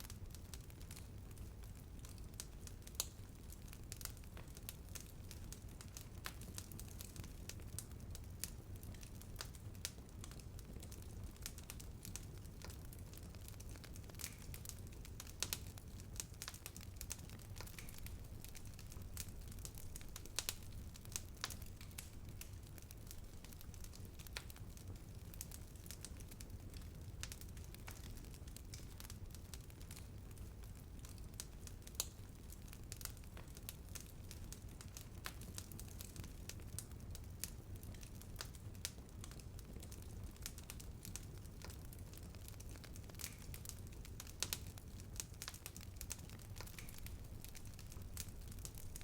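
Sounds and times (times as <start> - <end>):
low rumble of flame: 0.0 - 49.0
wood fire crackling and popping: 0.0 - 49.0.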